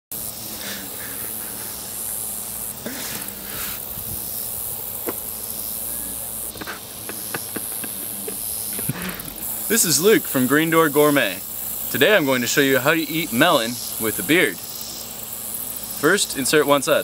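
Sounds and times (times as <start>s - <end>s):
insects droning: 0.1s - 17.0s.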